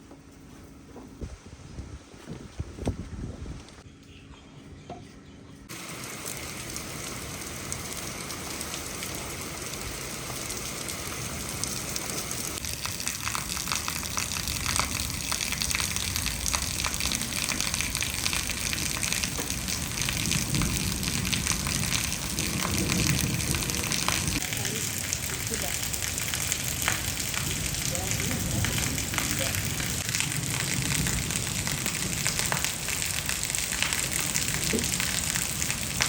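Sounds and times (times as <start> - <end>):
heavy rain pouring: 5.7 - 36.0
raindrops pattering: 5.7 - 36.0.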